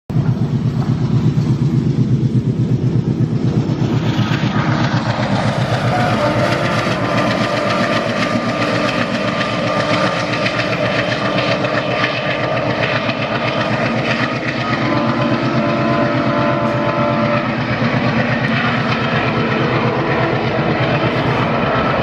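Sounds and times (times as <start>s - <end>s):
diesel locomotive engine throbbing: 0.1s - 22.0s
train wheels clicking on track: 0.1s - 22.0s.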